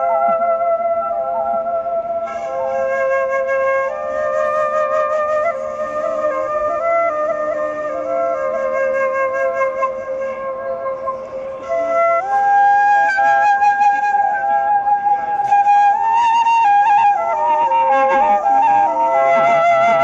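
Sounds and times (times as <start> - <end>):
bamboo flute slow melody: 0.0 - 20.0.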